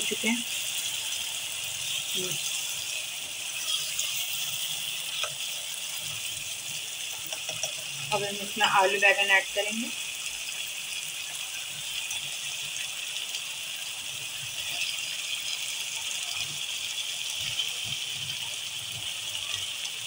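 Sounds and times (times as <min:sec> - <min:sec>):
masala sizzling in a pot: 0:00.0 - 0:20.0.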